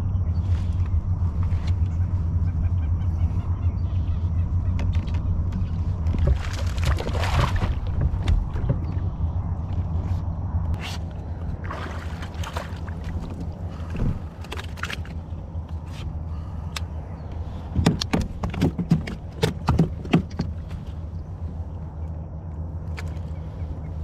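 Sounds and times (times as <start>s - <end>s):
boat motor humming: 0.0s - 24.0s.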